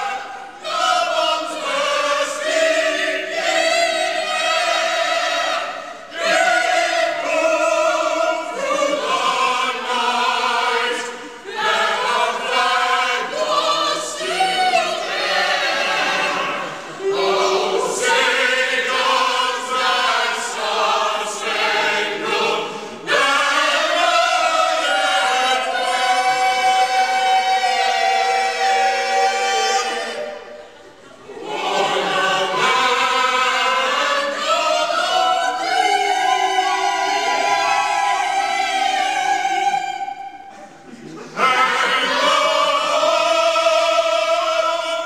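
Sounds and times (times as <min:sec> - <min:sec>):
choir singing: 0:00.0 - 0:45.0.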